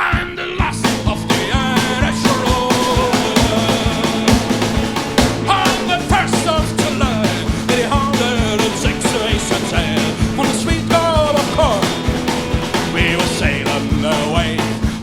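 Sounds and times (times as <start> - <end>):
rock band playing instrumental: 0.1 - 15.0.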